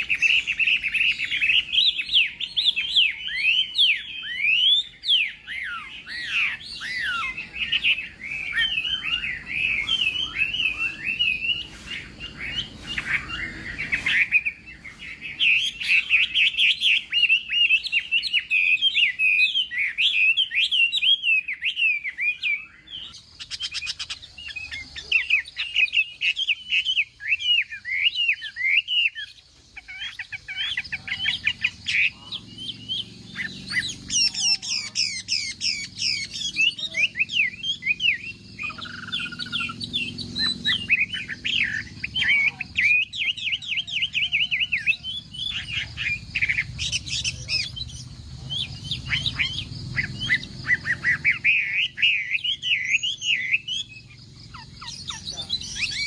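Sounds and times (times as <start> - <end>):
bird singing whistled song: 0.0 - 56.0.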